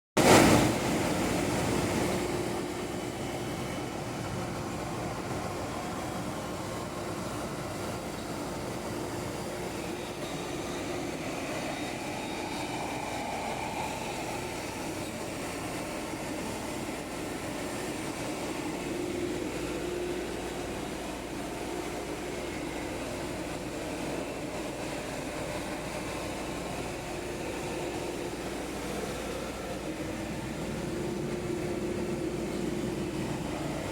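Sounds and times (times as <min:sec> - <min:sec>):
cnc router machine hum: 0:00.3 - 0:33.9.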